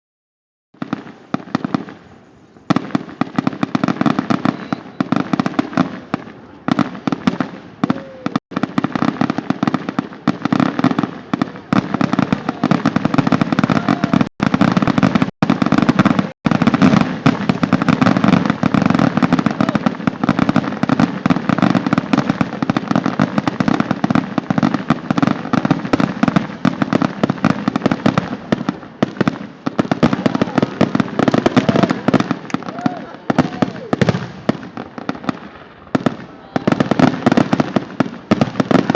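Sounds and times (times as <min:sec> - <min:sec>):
fireworks bangs and crackles: 0:00.8 - 0:38.9.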